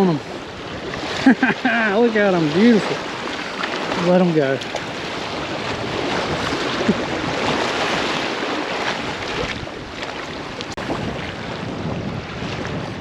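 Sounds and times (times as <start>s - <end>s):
waves washing over seawall: 0.0s - 13.0s
wind buffeting microphone: 0.0s - 13.0s.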